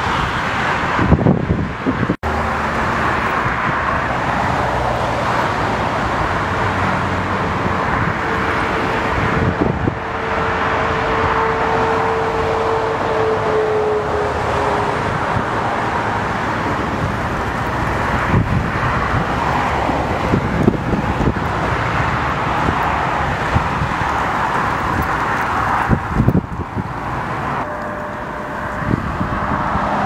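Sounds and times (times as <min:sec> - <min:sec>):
wind thumping microphone: 0:00.0 - 0:13.4, 0:15.0 - 0:30.0
jet engines roaring: 0:00.0 - 0:30.0.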